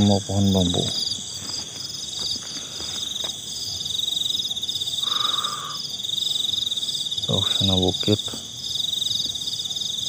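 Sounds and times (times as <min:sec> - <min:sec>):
frogs calling: 0:00.0 - 0:10.0
insects trilling: 0:00.0 - 0:10.0.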